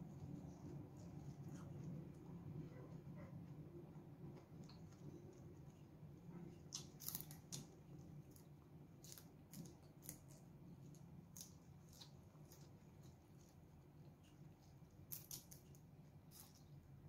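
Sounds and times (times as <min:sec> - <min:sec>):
chewing crisp leafy greens: 0:00.0 - 0:17.0.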